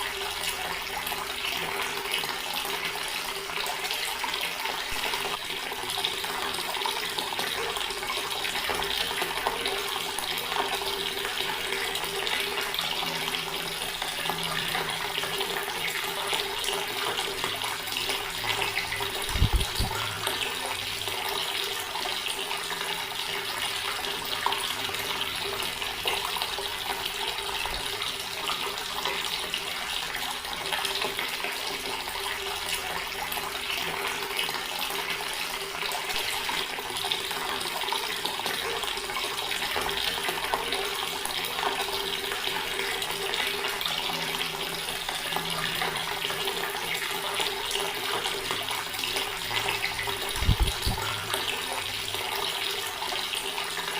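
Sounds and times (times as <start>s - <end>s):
tap water splashing into basin: 0.0s - 53.9s.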